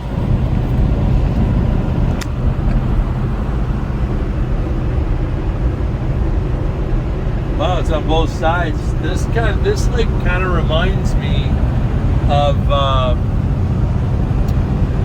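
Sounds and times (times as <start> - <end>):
road rumble: 0.0 - 15.0
truck engine drone: 0.0 - 15.0.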